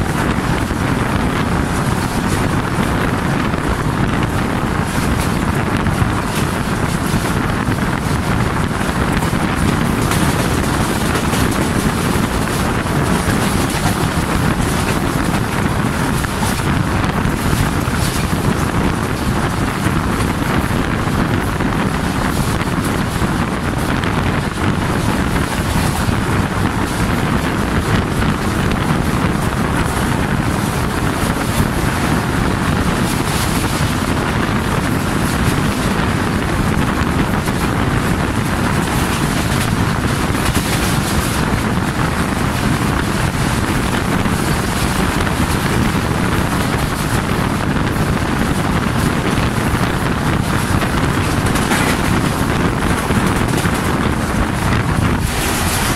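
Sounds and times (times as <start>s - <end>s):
train rumbling along track: 0.0s - 55.9s
wind rushing over microphone: 0.0s - 55.9s.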